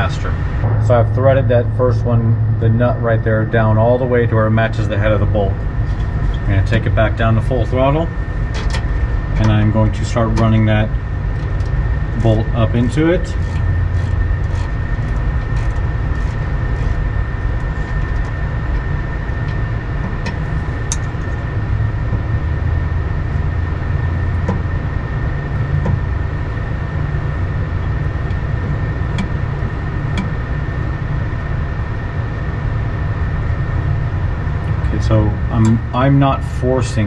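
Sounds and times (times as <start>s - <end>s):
machinery rumble and hum: 0.0s - 37.0s.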